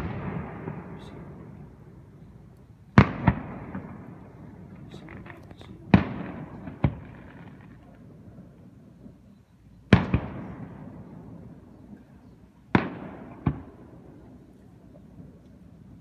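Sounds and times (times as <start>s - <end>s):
rolling echo: 0.0s - 16.0s.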